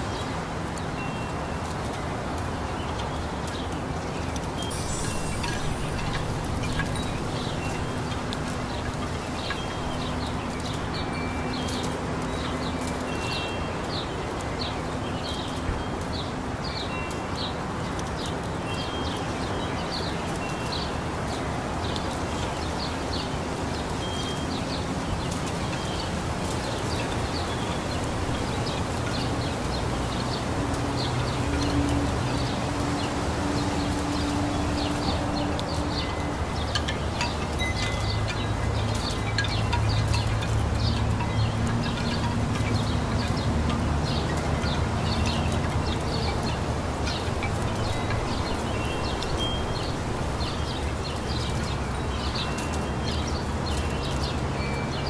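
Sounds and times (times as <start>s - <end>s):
breeze in leaves: 0.0s - 55.0s
small birds chirping: 0.0s - 55.0s.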